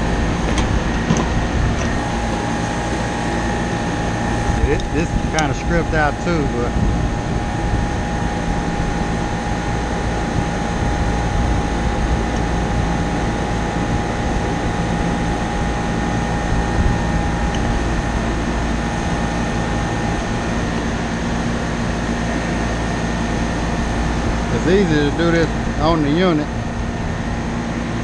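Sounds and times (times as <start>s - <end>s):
air conditioner unit drone: 0.0s - 28.0s
thin steady whine: 0.0s - 28.0s.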